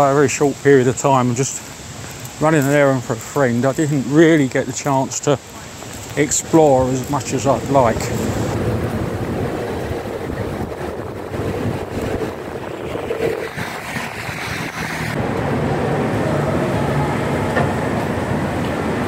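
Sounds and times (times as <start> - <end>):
traffic noise: 0.0 - 19.0
wind buffeting microphone: 0.0 - 19.0.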